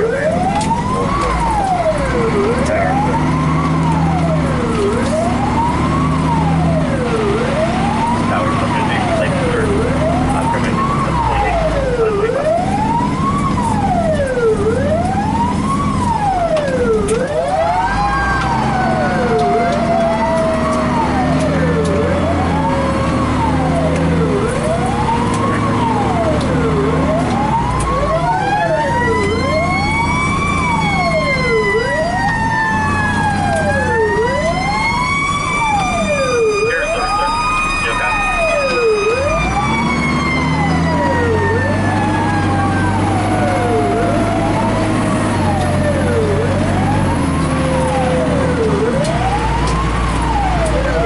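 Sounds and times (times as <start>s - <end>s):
electronic siren sweeping: 0.0s - 51.0s
slower wailing siren: 0.0s - 51.0s
truck engine rumbling: 0.0s - 51.0s.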